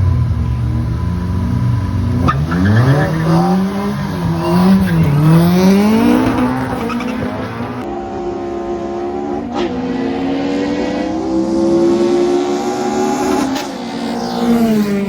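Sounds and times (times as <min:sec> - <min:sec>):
drag racing car accelerating: 0:00.0 - 0:15.0.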